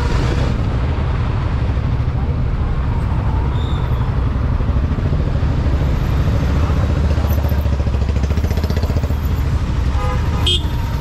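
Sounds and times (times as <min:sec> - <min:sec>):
idling scooters and cars: 0:00.0 - 0:11.0.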